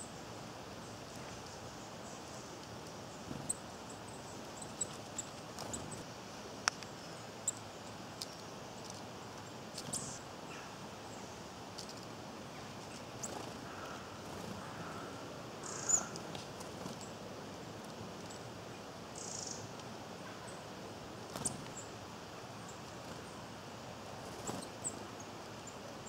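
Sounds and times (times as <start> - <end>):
small birds chipping: 0.0 - 26.0
steady hiss: 0.0 - 26.0.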